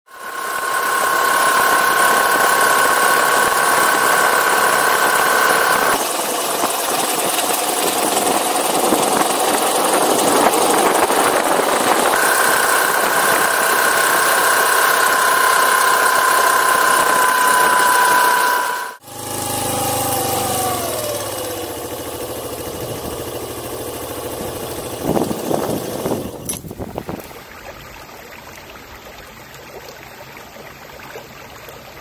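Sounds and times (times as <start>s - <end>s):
steady high whine: 0.1s - 26.6s
motorcycle engine running: 0.1s - 26.8s.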